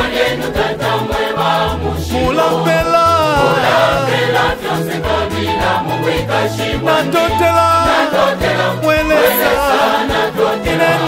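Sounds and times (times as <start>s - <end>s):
choir singing gospel song: 0.0s - 11.0s.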